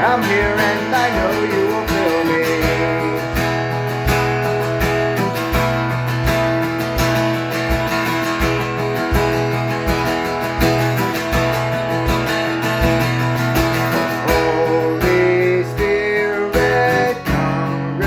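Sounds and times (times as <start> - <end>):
steady low beat: 0.0 - 17.6
strummed guitar: 0.0 - 18.0.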